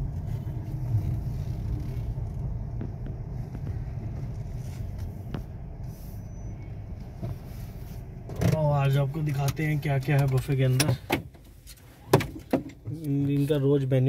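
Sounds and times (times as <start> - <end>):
car engine rumble inside cabin: 0.0 - 14.0.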